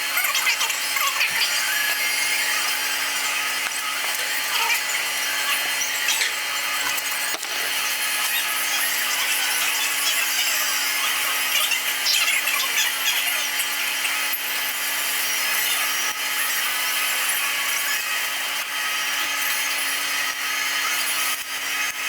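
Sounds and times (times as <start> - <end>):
power tool rasping against metal: 0.0 - 22.0.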